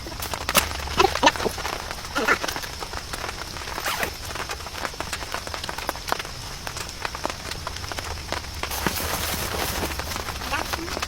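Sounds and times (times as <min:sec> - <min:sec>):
heavy rain: 0:00.0 - 0:11.0
raindrops ticking on a surface: 0:00.0 - 0:11.0.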